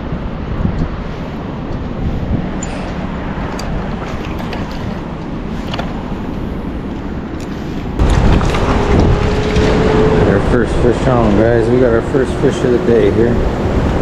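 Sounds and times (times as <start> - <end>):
wind on microphone: 0.0 - 14.0
river water rushing: 1.0 - 7.4, 8.0 - 14.0.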